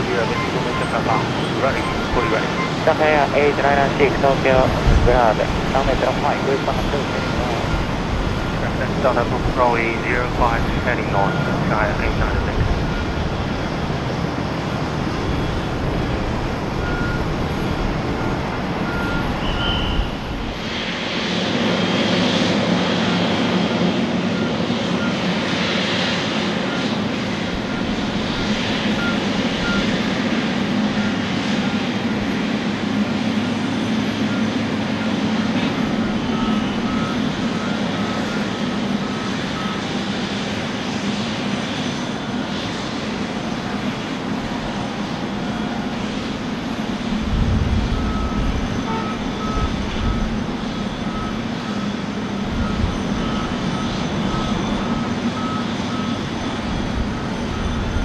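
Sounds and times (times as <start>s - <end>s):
jet aircraft engine whine: 0.0s - 58.0s.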